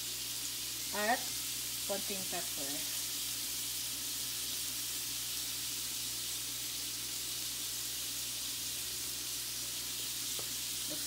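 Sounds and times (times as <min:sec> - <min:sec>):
shrimp sizzling in a pan: 0:00.0 - 0:11.0.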